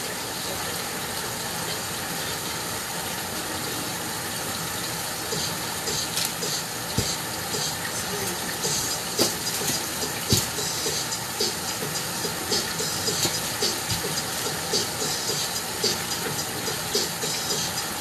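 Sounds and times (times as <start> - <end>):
fish deep-frying in hot oil: 0.0 - 18.0.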